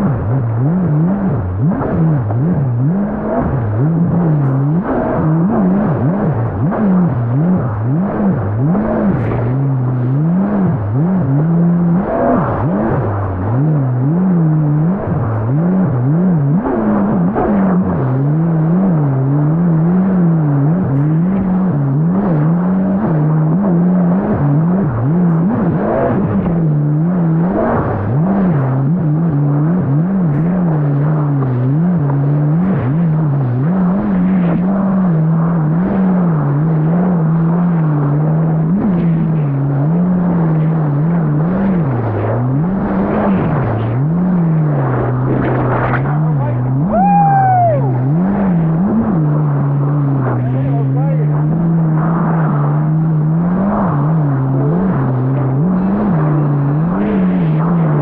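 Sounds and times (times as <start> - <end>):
jet ski engine revving: 0.0 - 58.0.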